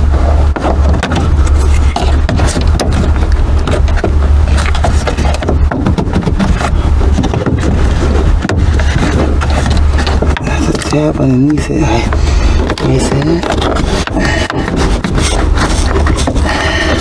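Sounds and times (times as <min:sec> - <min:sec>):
low rumble: 0:00.0 - 0:17.0
plastic trim scraping and clicking: 0:00.5 - 0:17.0.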